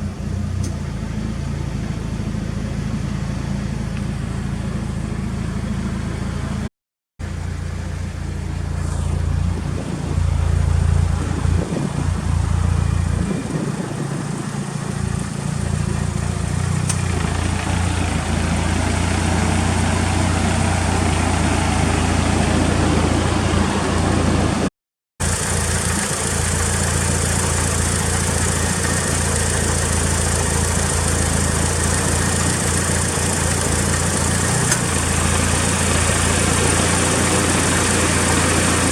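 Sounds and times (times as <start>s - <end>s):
car engine idling: 3.7s - 23.0s, 25.2s - 38.9s.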